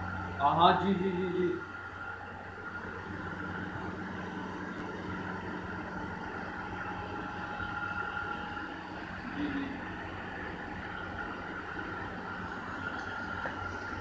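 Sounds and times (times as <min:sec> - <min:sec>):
faint steady whine: 0:00.0 - 0:14.0
steady mechanical hum: 0:00.0 - 0:14.0.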